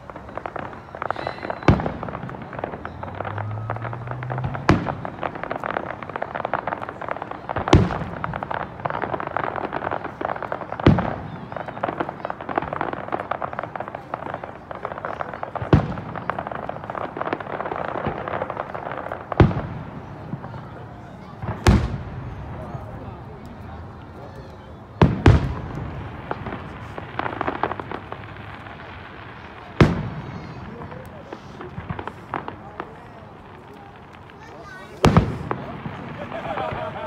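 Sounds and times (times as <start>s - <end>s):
firework shells booming: 0.0s - 24.1s, 24.9s - 37.0s
firework crackling: 0.0s - 37.0s.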